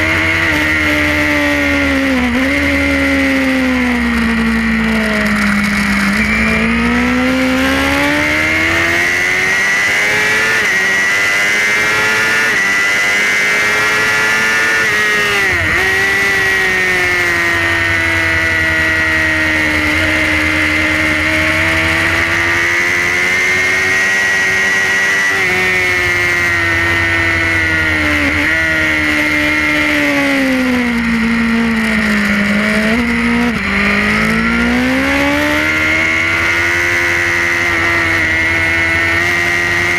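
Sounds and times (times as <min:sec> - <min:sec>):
motorcycle engine at racing speed: 0:00.0 - 0:39.9.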